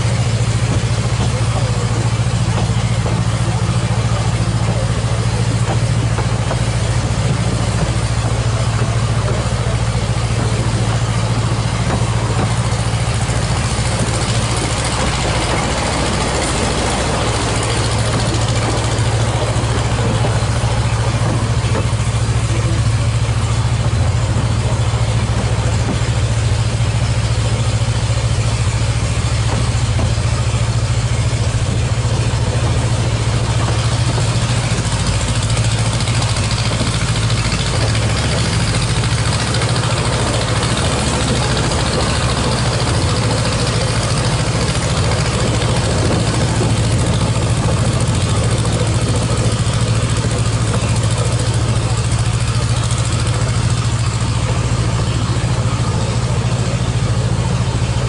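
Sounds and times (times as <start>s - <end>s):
train running: 0.0s - 58.0s
wheel and rail rumble: 0.0s - 58.0s.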